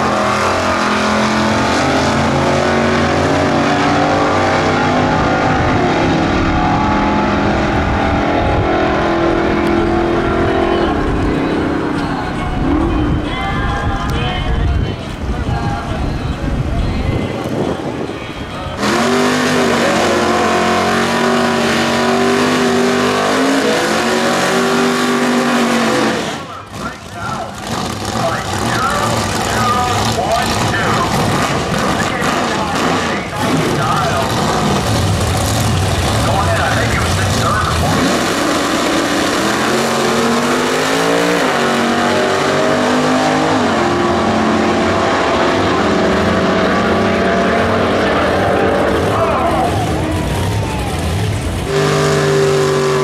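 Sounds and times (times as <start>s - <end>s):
drag car engines revving: 0.0s - 53.0s.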